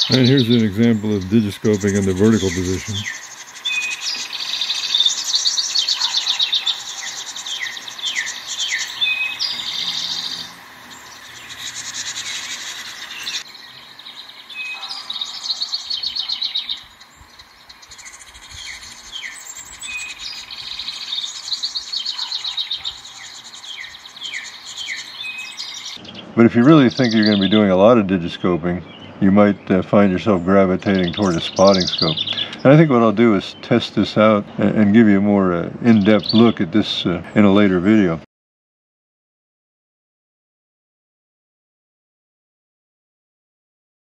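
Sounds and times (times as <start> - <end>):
wren singing trills: 0.0 - 38.2.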